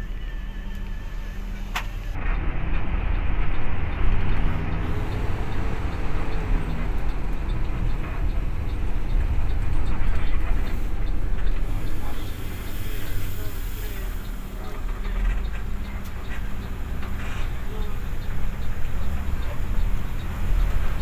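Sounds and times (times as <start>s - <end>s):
bus engine hum: 0.0s - 21.0s
road and interior rumble: 0.0s - 21.0s.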